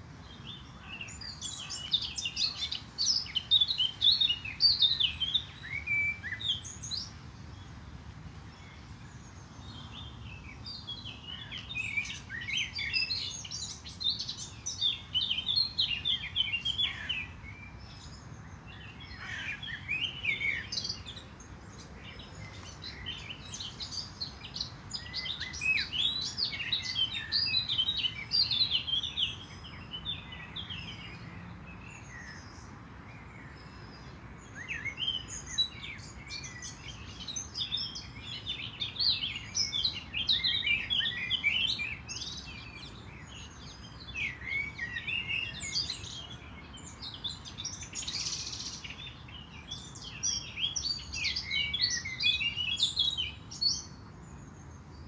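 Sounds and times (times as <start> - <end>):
faint low background noise: 0.0 - 55.0
songbirds chirping and trilling: 0.0 - 55.0.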